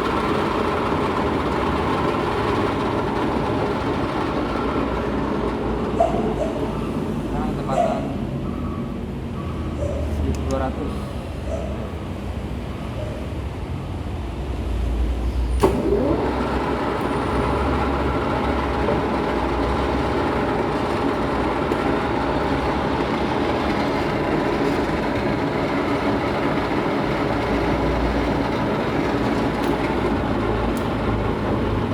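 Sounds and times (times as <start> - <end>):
lathe gear-train drone: 0.0 - 31.9.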